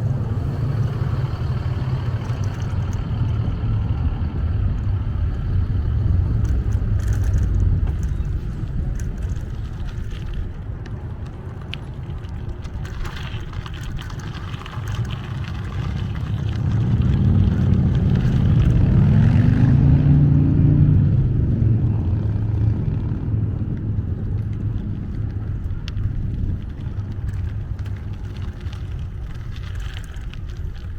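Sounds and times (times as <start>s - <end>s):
motor vehicle passing by: 0.0s - 30.9s
wind and road noise: 0.0s - 30.9s.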